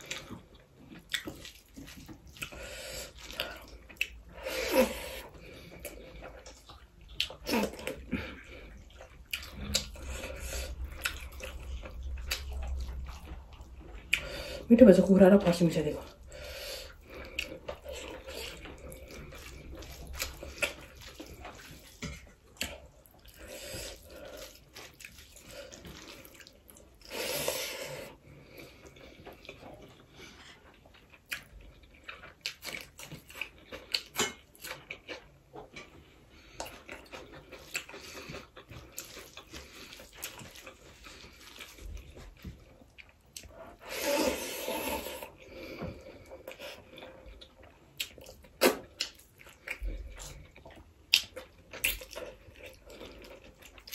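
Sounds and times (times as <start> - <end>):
person chewing food: 0.0 - 14.7, 16.0 - 53.9.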